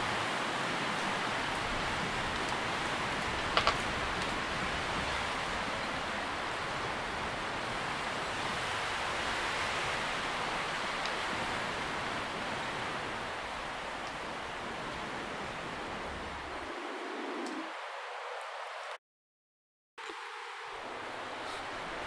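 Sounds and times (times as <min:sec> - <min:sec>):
leaves rustling in wind: 0:00.0 - 0:19.0, 0:20.0 - 0:22.0.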